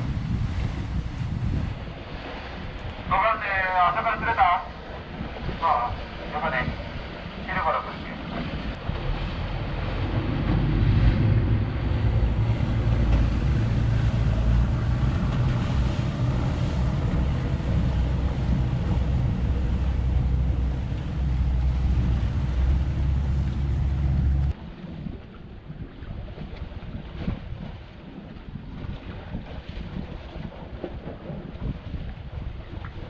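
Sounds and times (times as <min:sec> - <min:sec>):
boat engine droning: 0:00.0 - 0:33.0
wind noise on microphone: 0:00.0 - 0:33.0.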